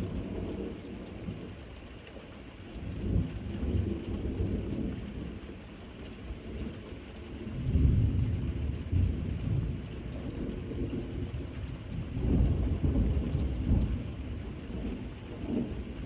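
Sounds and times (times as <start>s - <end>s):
low rolling thunder: 0.0s - 1.6s, 2.8s - 5.6s, 6.2s - 16.0s
steady rain falling: 0.0s - 16.0s.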